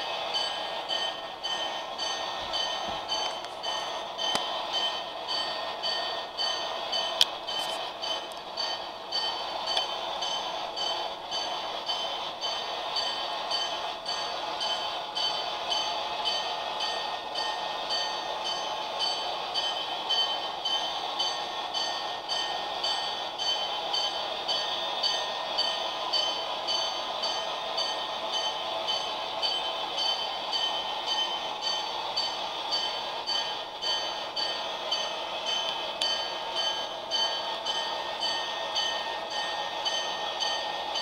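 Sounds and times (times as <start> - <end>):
model train wheels clicking on rails: 0.0 - 41.0.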